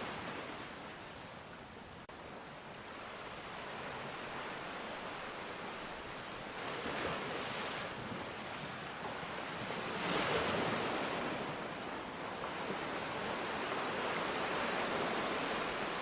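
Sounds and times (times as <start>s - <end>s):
sea waves washing onto shore: 0.0s - 16.0s.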